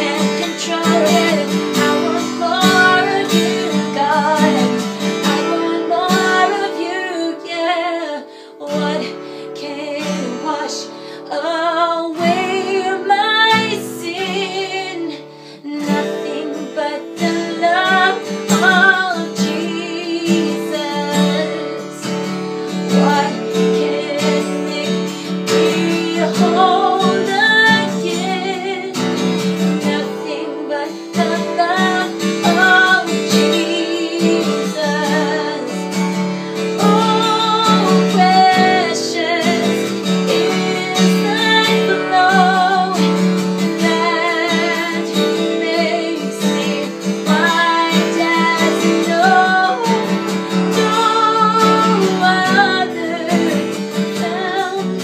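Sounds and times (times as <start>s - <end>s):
strummed acoustic guitar: 0.0s - 55.0s
woman singing: 0.0s - 55.0s.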